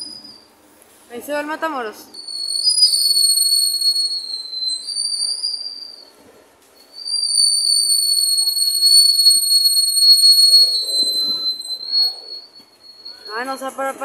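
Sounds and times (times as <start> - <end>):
steel wheels squealing on rails: 0.0 - 1.0, 2.1 - 14.0.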